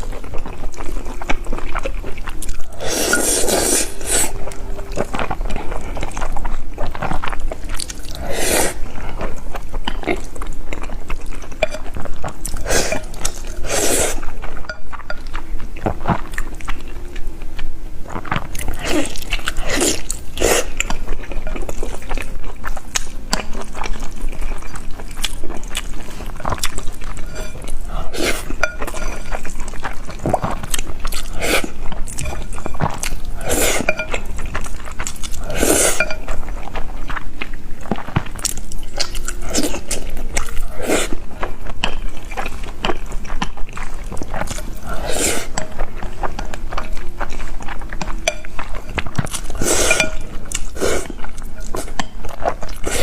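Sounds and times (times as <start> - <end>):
close chewing with wet mouth sounds: 0.0 - 53.0.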